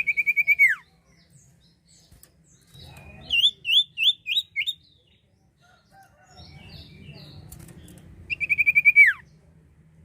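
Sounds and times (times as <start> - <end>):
songbird trill: 0.0 - 9.5.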